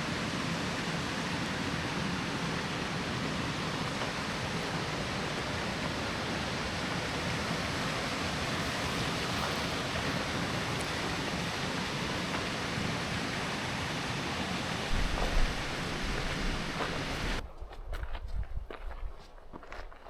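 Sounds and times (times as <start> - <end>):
water rushing: 0.0 - 17.4.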